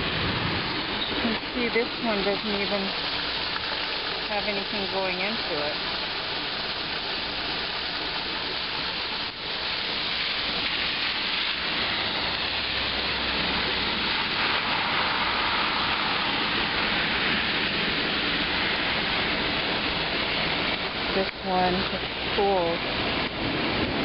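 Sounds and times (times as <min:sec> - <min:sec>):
floodwater rushing in street: 0:00.0 - 0:24.0.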